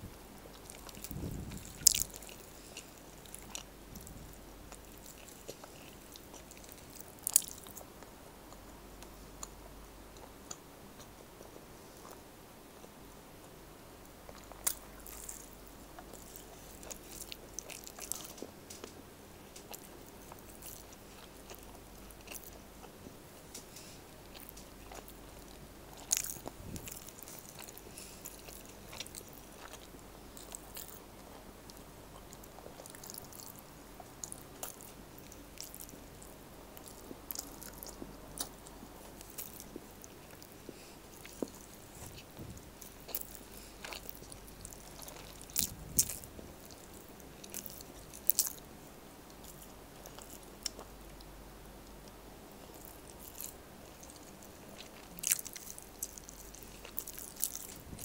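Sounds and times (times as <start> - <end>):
person chewing food: 0.3 - 13.0, 14.2 - 58.0.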